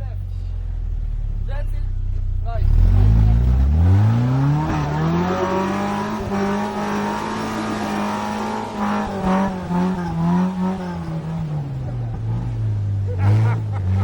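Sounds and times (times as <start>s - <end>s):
vehicle engine climbing: 0.0s - 14.0s.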